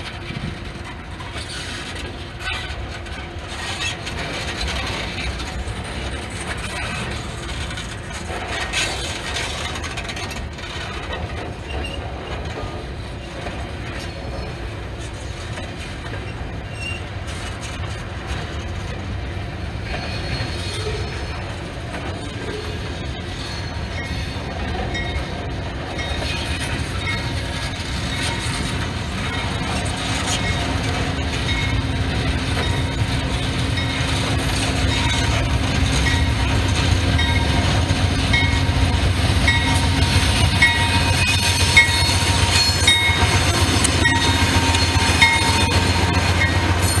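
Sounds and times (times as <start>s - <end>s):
locomotive engine drone: 0.0s - 47.0s
low train rumble: 0.0s - 47.0s
train wheels clicking on rail joints: 0.0s - 47.0s.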